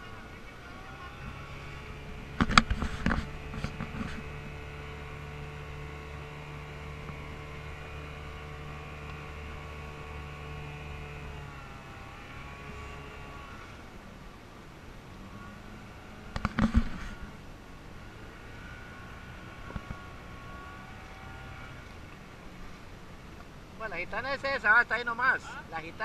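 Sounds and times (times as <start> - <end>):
boat motor running: 0.0 - 26.0.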